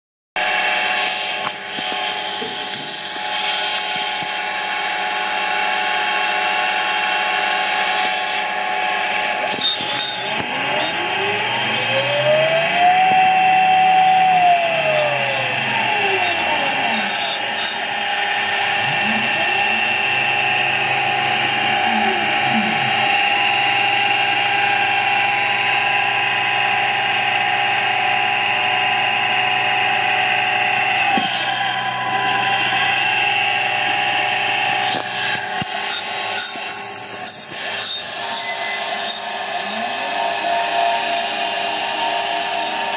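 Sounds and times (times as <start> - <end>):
mill motor whine: 0.4 - 42.9
stepper motors whining: 0.4 - 42.9.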